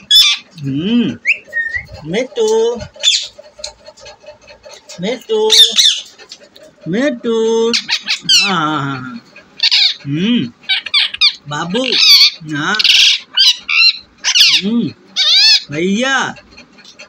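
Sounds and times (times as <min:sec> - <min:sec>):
parakeet squawking and chattering: 0:00.0 - 0:17.0.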